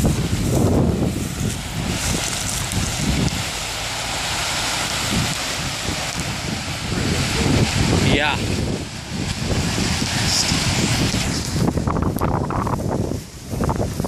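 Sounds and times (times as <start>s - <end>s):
river ice floes grinding: 0.0s - 14.0s
wind buffeting microphone: 0.0s - 14.0s.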